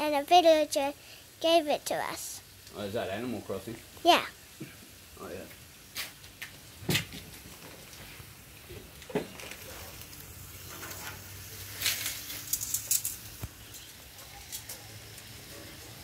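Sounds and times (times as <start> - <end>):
bacon sizzling on a barbecue: 0.0 - 16.0.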